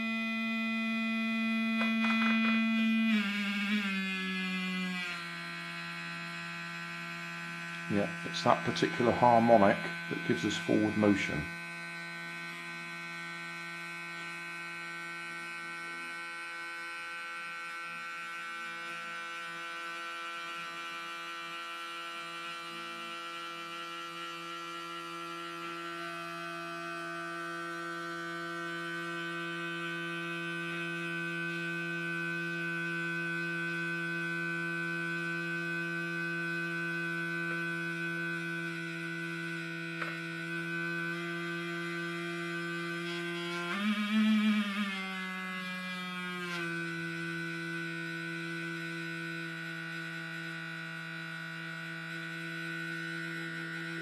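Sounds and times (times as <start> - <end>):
vibration motor buzzing: 0.0 - 54.0.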